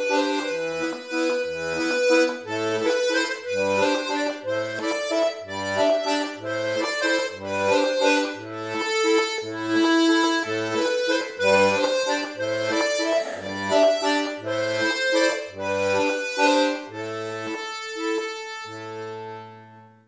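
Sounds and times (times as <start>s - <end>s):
button accordion playing a tune: 0.0s - 20.0s.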